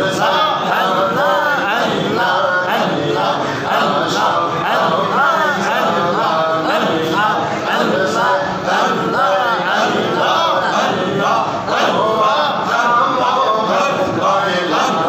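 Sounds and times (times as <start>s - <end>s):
group of men chanting: 0.0s - 15.0s
man chanting into a microphone: 0.0s - 15.0s.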